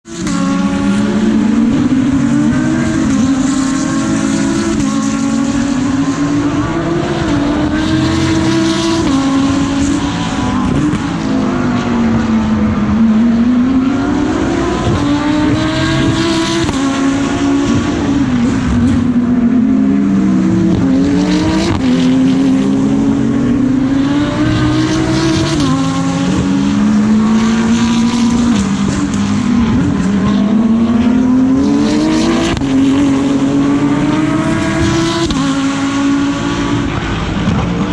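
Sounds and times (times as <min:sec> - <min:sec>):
race car engine accelerating: 0:00.0 - 0:37.9.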